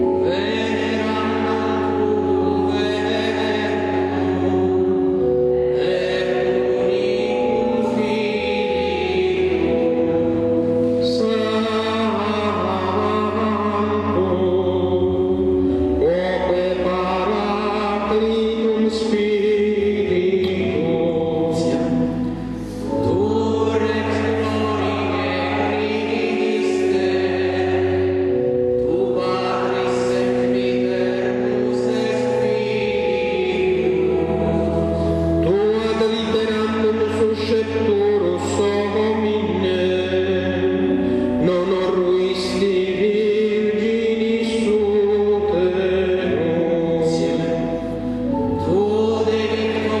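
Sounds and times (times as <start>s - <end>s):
slow choral chant: 0.0s - 15.4s, 16.0s - 50.0s
steady low drone: 0.0s - 50.0s.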